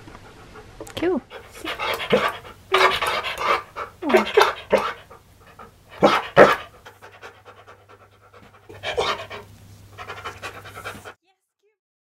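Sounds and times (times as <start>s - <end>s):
dog panting: 0.0s - 11.2s
dog grumbling: 1.2s - 11.1s.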